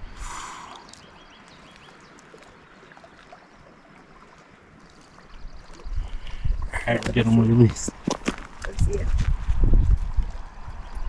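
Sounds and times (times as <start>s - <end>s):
faint lapping water: 0.0s - 11.0s.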